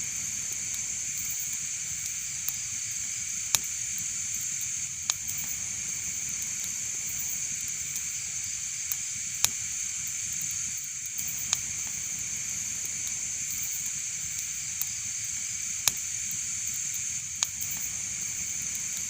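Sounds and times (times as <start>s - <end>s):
fire crackling pops: 0.0s - 19.0s
fire hissing: 0.0s - 19.0s.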